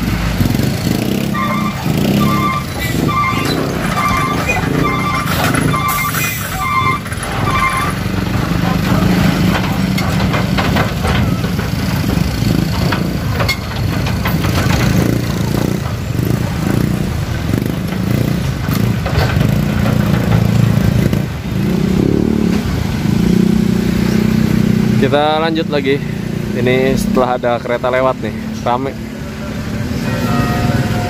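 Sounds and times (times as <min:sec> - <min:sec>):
motorcycle engines revving: 0:00.0 - 0:31.0
road traffic: 0:00.0 - 0:31.0.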